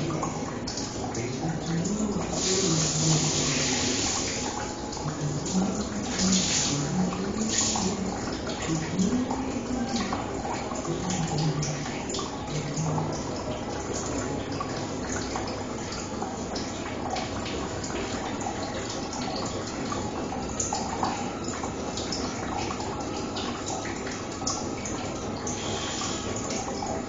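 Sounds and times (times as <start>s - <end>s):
water running: 0.0s - 27.0s
water splashes and drips: 0.0s - 27.0s.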